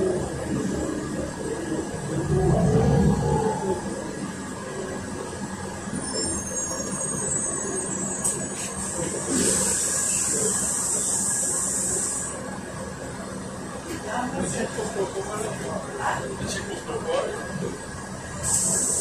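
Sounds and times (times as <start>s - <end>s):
bus engine droning: 0.0s - 19.0s
road noise: 0.0s - 19.0s.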